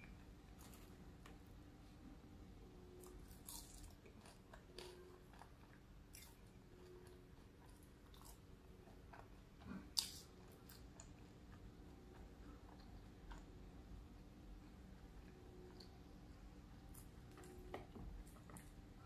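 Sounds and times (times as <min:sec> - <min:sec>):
soft chewing with clicks: 0:02.9 - 0:19.0.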